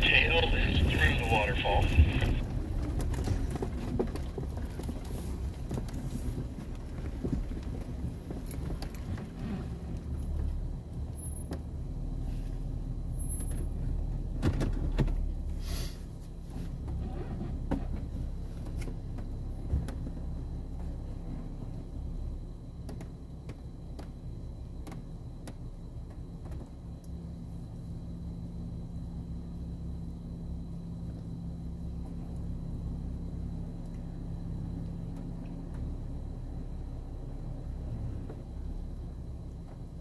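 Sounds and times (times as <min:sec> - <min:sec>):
vehicle engine rumbling: 0:00.0 - 0:26.1, 0:30.5 - 0:40.0.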